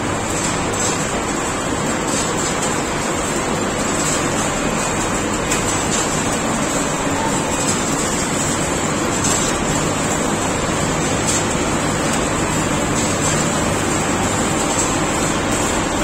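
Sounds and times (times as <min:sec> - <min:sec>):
wire-drawing machine running: 0:00.0 - 0:16.0.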